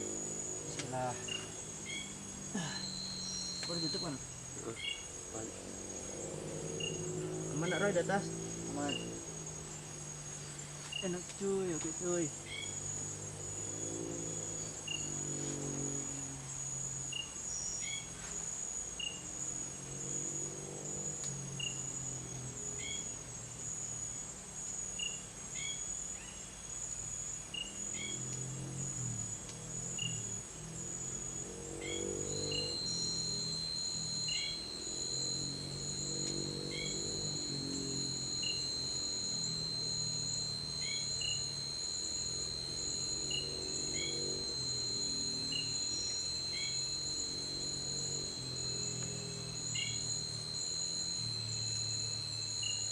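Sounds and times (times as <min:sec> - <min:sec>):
high insect tone: 0:00.0 - 0:52.9
insect chirps: 0:00.0 - 0:52.9
pulsing cricket drone: 0:00.0 - 0:52.9.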